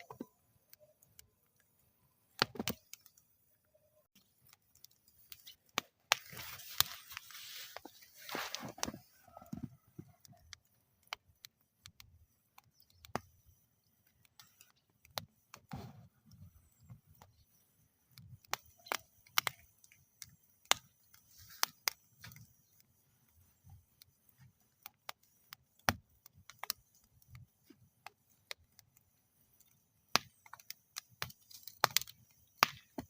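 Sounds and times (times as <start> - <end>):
wood fire crackling: 0.0 - 33.0
fire hissing: 5.0 - 9.8, 10.5 - 33.0.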